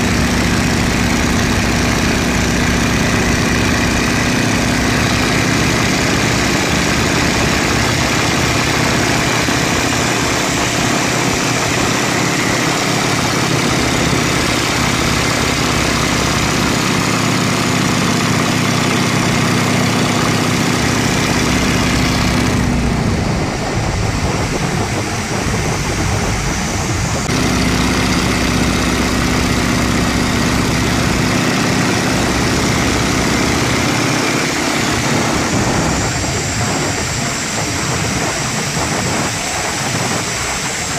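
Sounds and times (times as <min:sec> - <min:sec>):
biplane engine and propeller: 0:00.0 - 0:40.9
heavy wind rush: 0:00.0 - 0:40.9.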